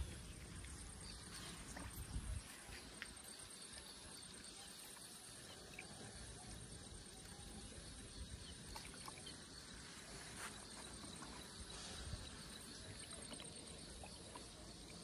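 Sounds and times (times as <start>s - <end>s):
faint high insect trill: 0.0s - 15.0s.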